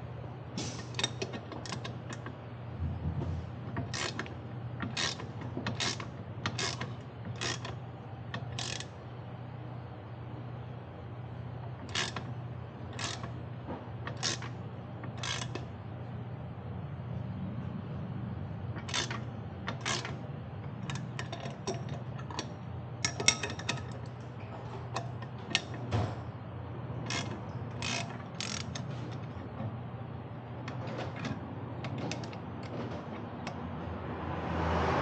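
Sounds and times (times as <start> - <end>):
steady low hum: 0.0 - 34.6.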